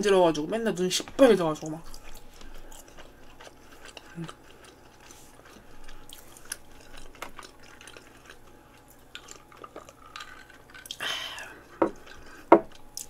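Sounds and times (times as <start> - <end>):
closed-mouth chewing: 1.1 - 13.0.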